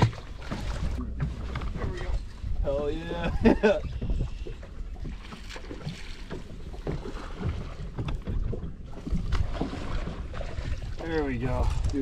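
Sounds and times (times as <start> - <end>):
water lapping against boat hull: 0.0 - 12.0
wind buffeting microphone: 0.0 - 12.0.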